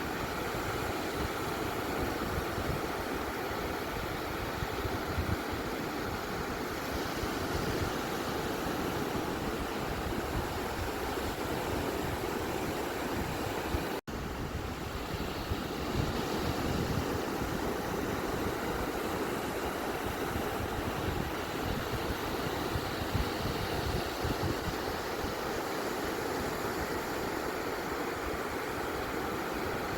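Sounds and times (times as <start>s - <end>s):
ocean waves breaking on beach: 0.0s - 29.9s.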